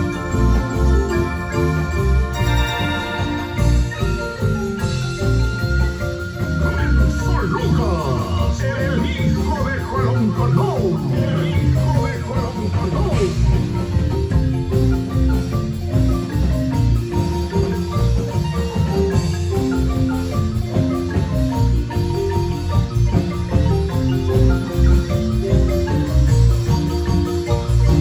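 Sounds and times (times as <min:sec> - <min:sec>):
marimba notes: 0:00.0 - 0:28.0.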